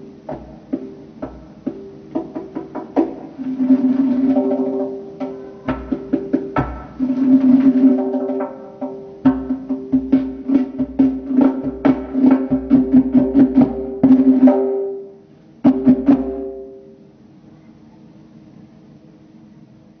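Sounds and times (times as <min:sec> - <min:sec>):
goblet drum played by hand: 0:00.0 - 0:16.9.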